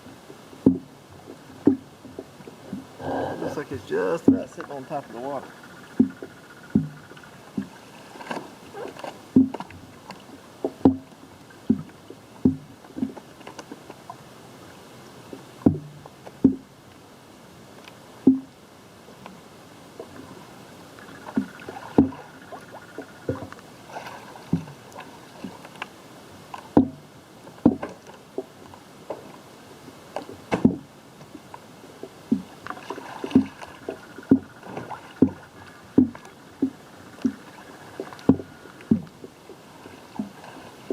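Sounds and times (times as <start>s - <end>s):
water slapping against microphone: 0.0s - 16.8s, 17.7s - 40.9s
faint steady water noise: 0.0s - 40.9s.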